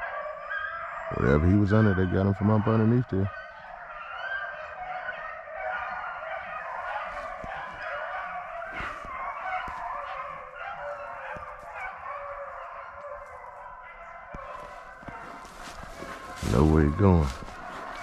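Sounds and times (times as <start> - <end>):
hounds baying in chorus: 0.0 - 18.0.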